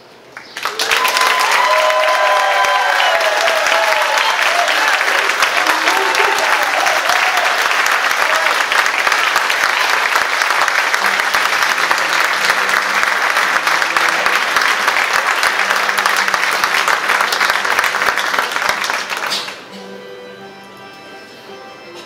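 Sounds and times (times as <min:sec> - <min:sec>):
people applauding: 0:00.3 - 0:19.7.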